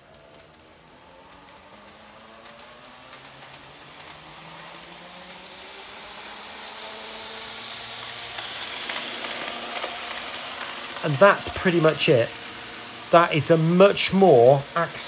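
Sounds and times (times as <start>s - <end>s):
model train motor whining: 0.0s - 15.0s
wheels clicking on rails: 0.0s - 15.0s.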